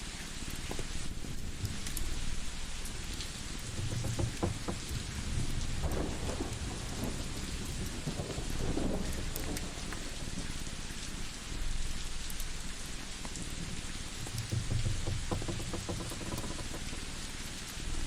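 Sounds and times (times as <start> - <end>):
rain hiss: 0.0 - 18.0.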